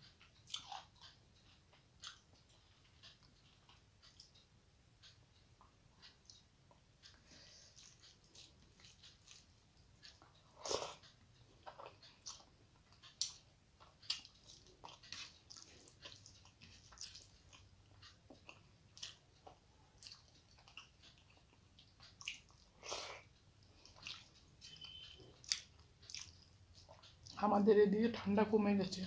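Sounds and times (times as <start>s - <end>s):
person chewing food: 0.1s - 27.4s.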